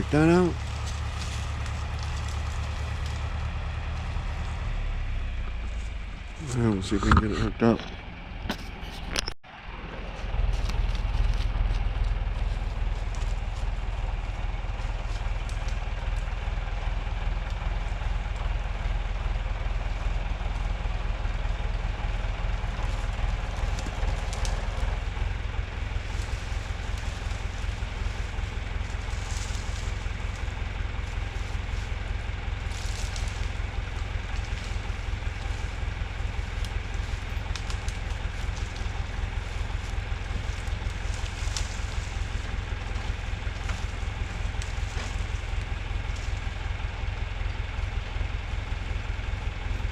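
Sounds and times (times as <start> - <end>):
tractor engine throbbing: 0.0 - 49.9.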